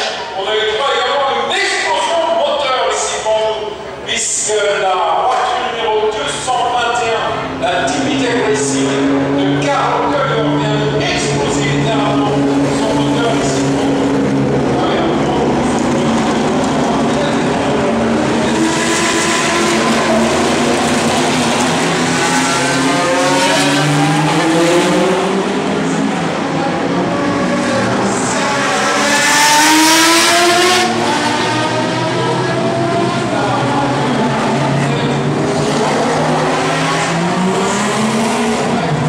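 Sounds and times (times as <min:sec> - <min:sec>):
racing cars accelerating past: 0:06.3 - 0:39.0.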